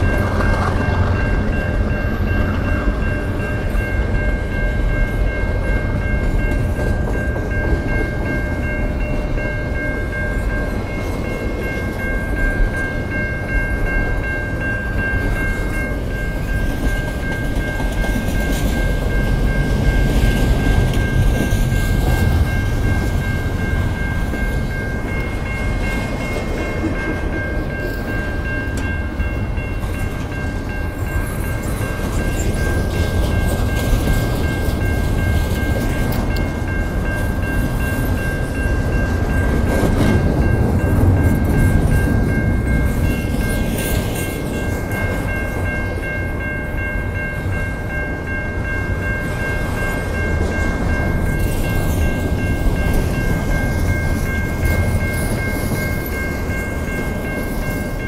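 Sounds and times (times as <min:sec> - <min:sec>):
crossing bell ringing: 0:00.0 - 0:58.0
freight train rumbling: 0:00.0 - 0:58.0.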